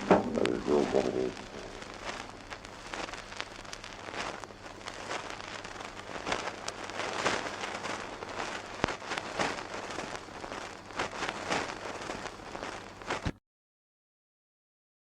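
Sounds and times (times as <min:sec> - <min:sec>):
steady low hum: 0:00.0 - 0:13.3
record clicks and pops: 0:00.0 - 0:13.4
record crackle and hiss: 0:00.0 - 0:13.4.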